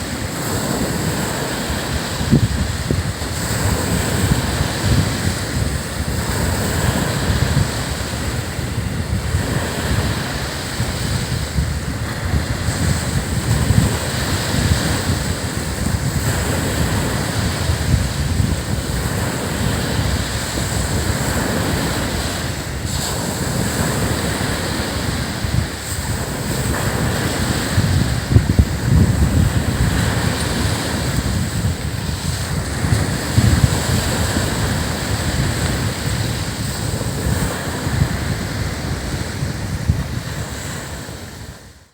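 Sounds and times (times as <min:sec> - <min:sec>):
ocean surf breaking on beach: 0:00.0 - 0:41.9
wind buffeting microphone: 0:00.0 - 0:41.9.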